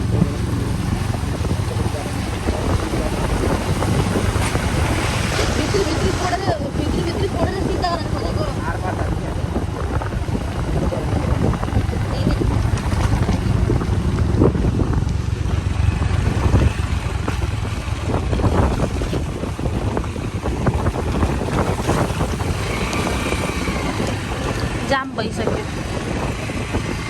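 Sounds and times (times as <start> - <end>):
engine and road rumble: 0.0 - 27.0
wind buffeting microphone: 0.0 - 27.0.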